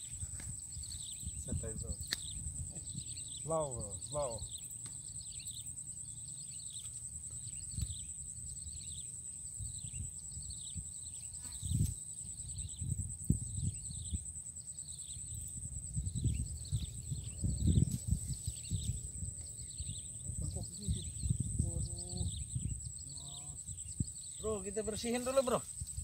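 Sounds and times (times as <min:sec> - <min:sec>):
high insect trill: 0:00.0 - 0:26.0.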